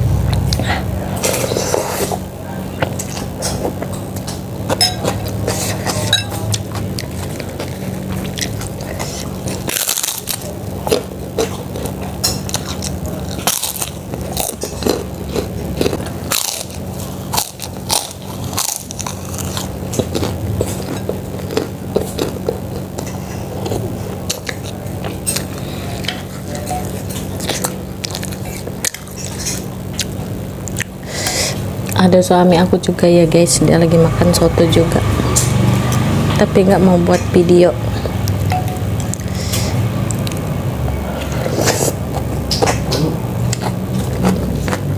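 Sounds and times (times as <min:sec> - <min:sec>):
steady low hum: 0:00.0 - 0:44.9
biting and chewing crunches: 0:02.8 - 0:32.0, 0:37.8 - 0:44.9.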